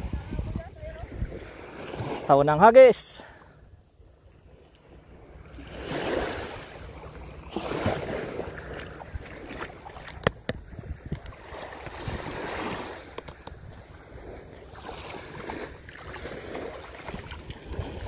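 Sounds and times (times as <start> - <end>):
small waves washing onto shore: 0.0 - 18.0.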